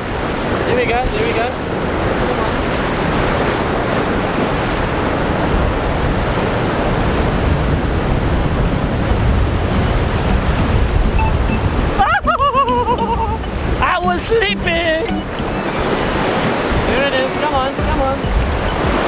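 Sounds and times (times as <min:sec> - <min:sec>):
surf washing against rocks: 0:00.0 - 0:19.0
wind buffeting microphone: 0:00.0 - 0:19.0.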